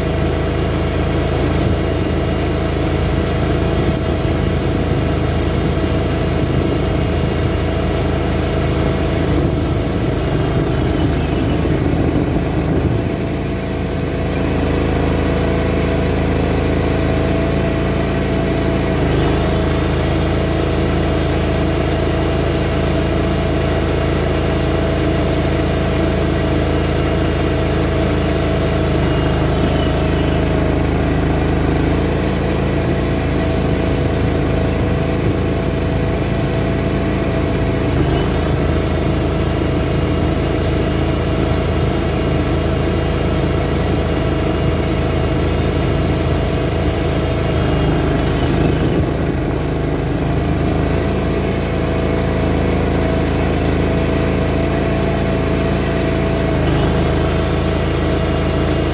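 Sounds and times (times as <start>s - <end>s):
mower petrol engine running: 0.0s - 58.9s.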